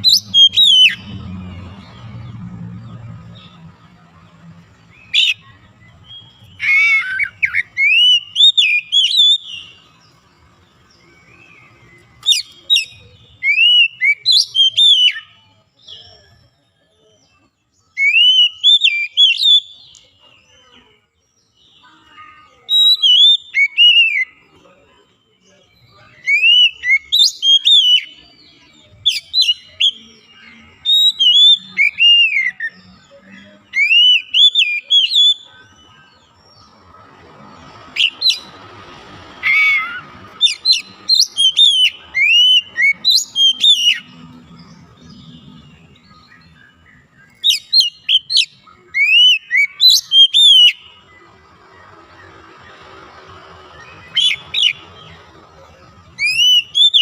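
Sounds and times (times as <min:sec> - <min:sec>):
bird singing whistled notes: 0:00.0 - 0:03.7, 0:04.7 - 0:36.8, 0:37.9 - 0:38.6, 0:39.4 - 0:57.0.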